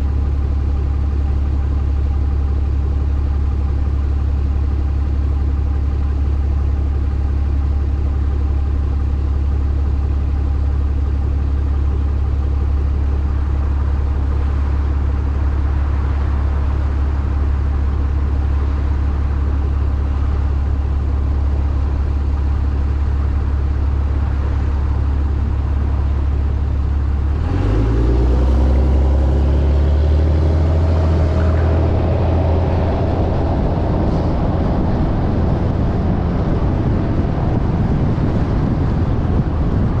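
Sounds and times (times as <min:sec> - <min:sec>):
vehicle engine idling and revving: 0:00.0 - 0:40.0.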